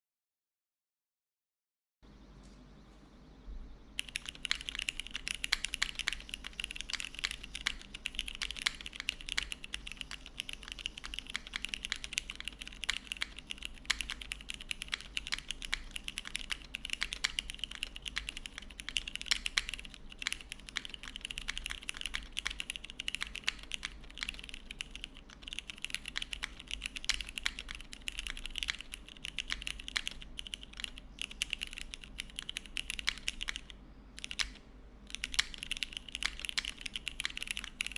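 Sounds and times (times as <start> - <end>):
fast typing on mechanical keyboard: 4.0 - 37.9.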